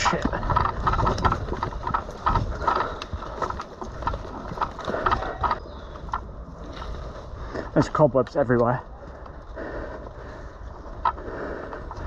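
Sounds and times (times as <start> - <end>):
footsteps with rattling gear: 0.0 - 12.0.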